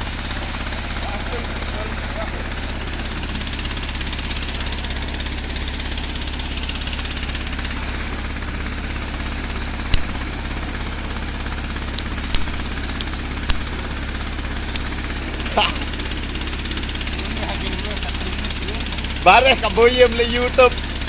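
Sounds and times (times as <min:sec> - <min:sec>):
engine running with pulsing: 0:00.0 - 0:21.0.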